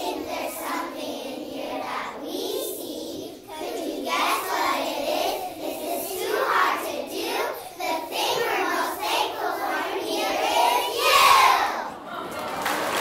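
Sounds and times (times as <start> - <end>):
children singing together: 0.0 - 12.1.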